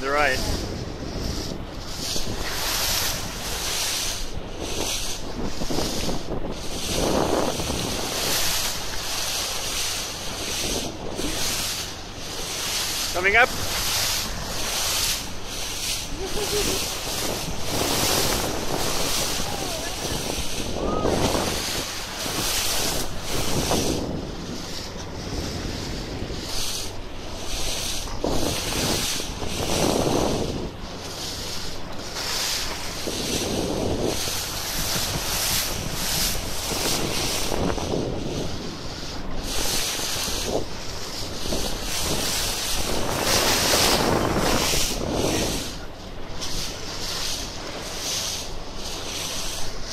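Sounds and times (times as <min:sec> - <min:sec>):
water rushing along boat hull: 0:00.0 - 0:49.9
wind buffeting microphone: 0:00.0 - 0:49.9.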